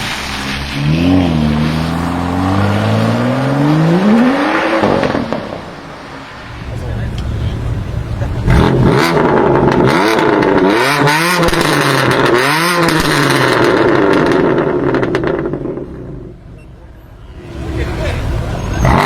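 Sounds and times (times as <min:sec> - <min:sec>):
car engine revving loudly: 0:00.4 - 0:05.9, 0:07.3 - 0:15.8, 0:17.5 - 0:19.0.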